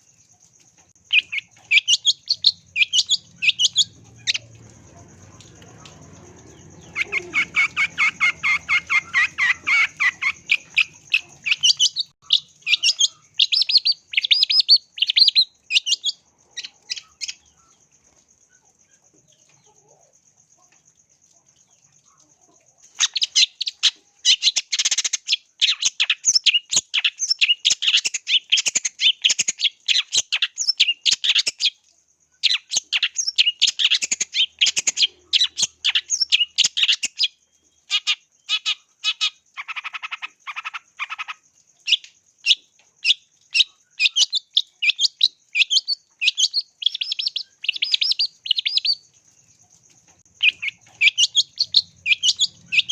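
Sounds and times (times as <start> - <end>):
bird chattering song: 0.0 - 17.9, 22.4 - 31.8, 32.4 - 52.9.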